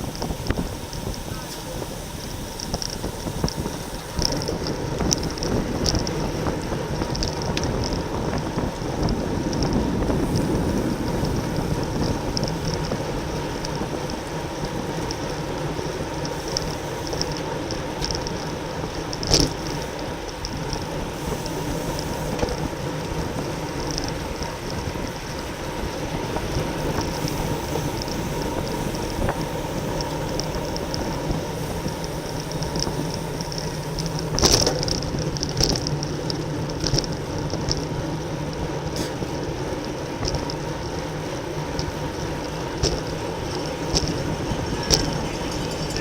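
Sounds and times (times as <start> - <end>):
bicycle road noise: 0.0 - 46.0
wind noise: 0.0 - 46.0.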